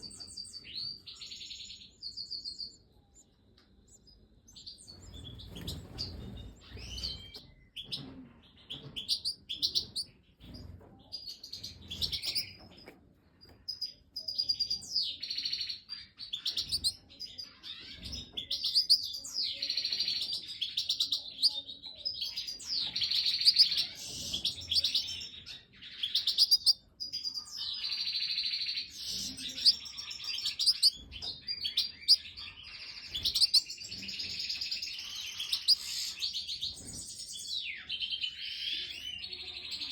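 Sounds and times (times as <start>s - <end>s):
goldfinches chirping and twittering: 3.8s - 39.9s.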